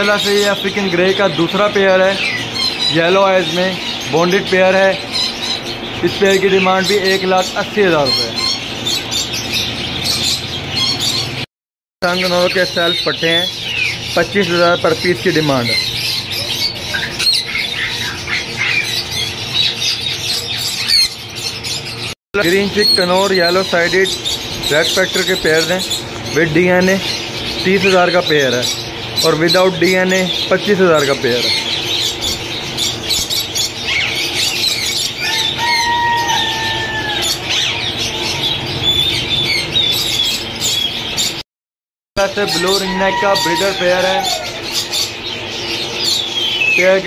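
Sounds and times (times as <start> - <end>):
parrots squawking and chirping: 0.0 - 41.4, 42.2 - 47.0.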